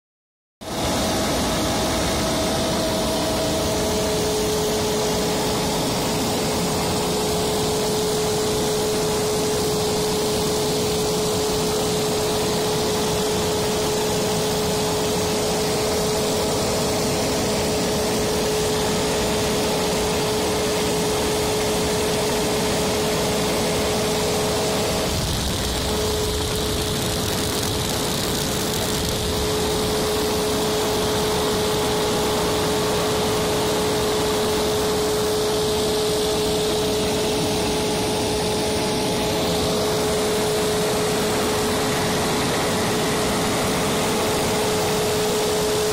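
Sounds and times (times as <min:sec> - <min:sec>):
sprayer fan rushing air: 0:00.6 - 0:45.9
constant hum: 0:00.7 - 0:45.9.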